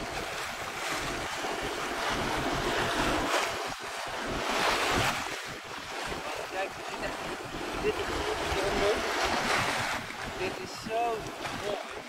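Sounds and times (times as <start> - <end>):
water rushing past boat bow: 0.0 - 12.0
wind noise on microphone: 0.0 - 12.0.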